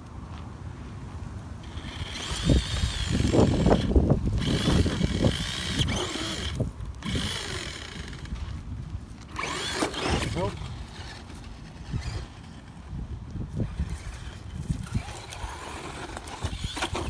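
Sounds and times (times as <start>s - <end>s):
tyres crunching through gravel: 0.0s - 17.0s
electric motor whining: 1.6s - 8.5s, 9.3s - 12.8s, 13.6s - 17.0s.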